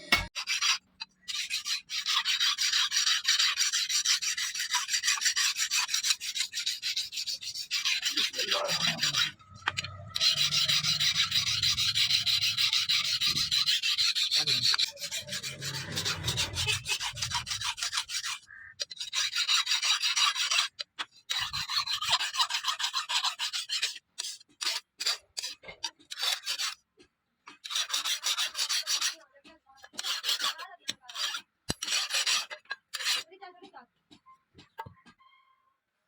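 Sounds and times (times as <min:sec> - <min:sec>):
knife blade scraping on abrasive: 0:00.0 - 0:26.8, 0:27.5 - 0:29.2, 0:29.8 - 0:33.3.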